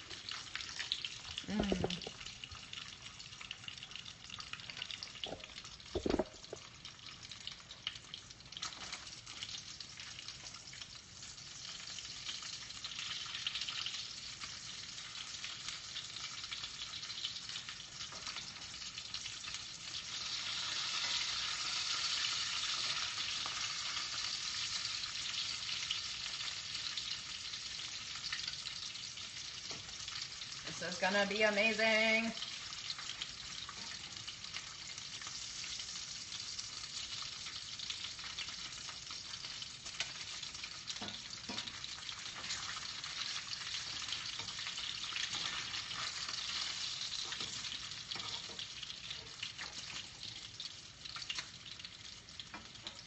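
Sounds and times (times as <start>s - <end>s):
bacon sizzling in a pan: 0.0s - 53.0s.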